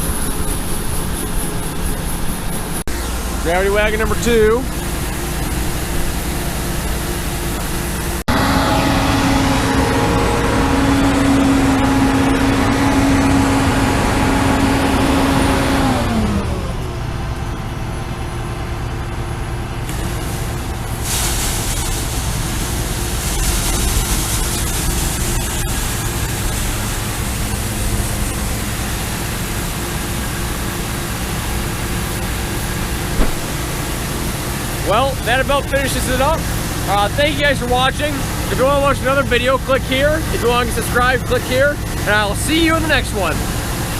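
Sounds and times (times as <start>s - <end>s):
drive whine winding down: 0.0s - 21.0s, 21.7s - 43.9s
combine harvester running: 0.0s - 43.9s.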